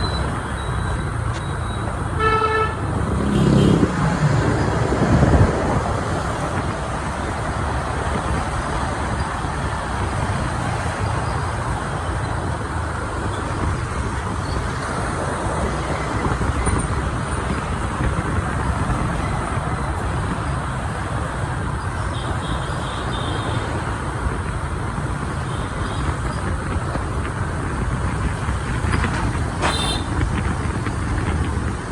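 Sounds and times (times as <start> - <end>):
motorbike engines: 0.0 - 31.9
traffic: 0.0 - 31.9
wind rushing over microphone: 0.0 - 31.9.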